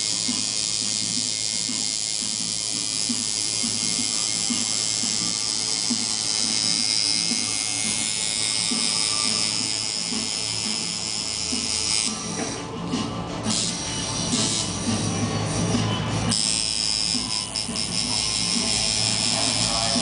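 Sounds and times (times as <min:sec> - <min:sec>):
music playing: 0:00.0 - 0:20.0
tattoo machine buzzing: 0:00.0 - 0:20.0.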